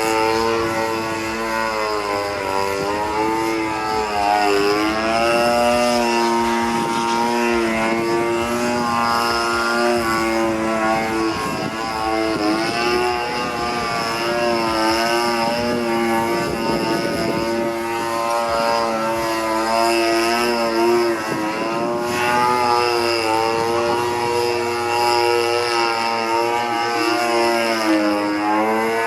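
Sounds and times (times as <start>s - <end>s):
model airplane engine and propeller: 0.0s - 29.0s.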